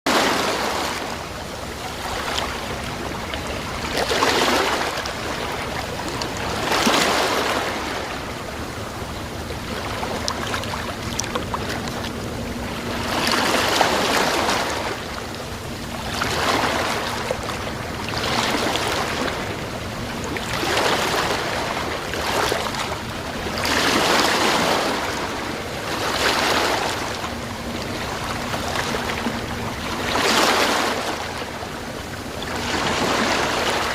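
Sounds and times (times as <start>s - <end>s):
sea waves rushing and washing: 0.1s - 33.9s.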